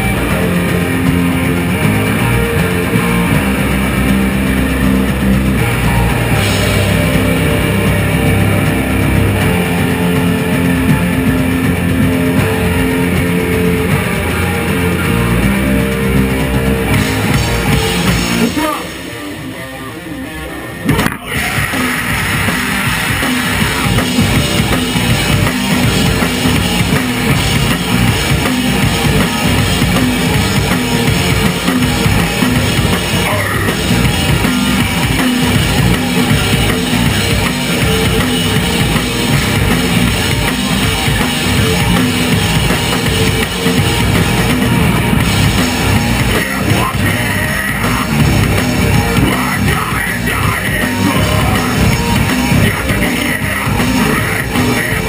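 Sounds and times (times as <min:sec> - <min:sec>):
pounding bass drum: 0:00.0 - 0:18.9, 0:20.9 - 0:55.0
drum kit: 0:00.0 - 0:19.9, 0:20.7 - 0:55.0
bass guitar: 0:00.0 - 0:55.0
distorted electric guitars: 0:00.0 - 0:55.0.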